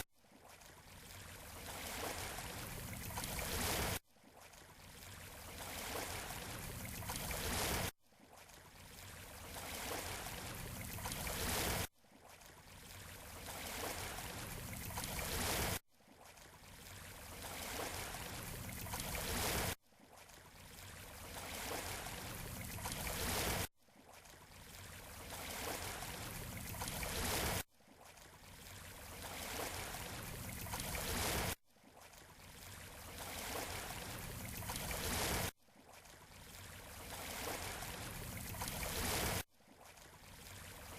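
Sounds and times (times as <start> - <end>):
waves washing on a beach: 0.0 - 40.9.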